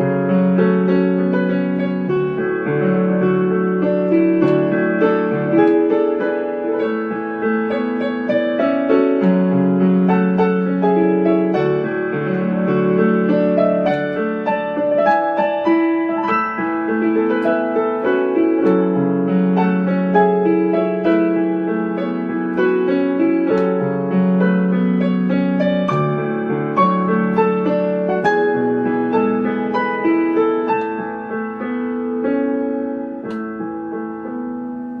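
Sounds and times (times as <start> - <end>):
digital piano playing: 0.0 - 35.0.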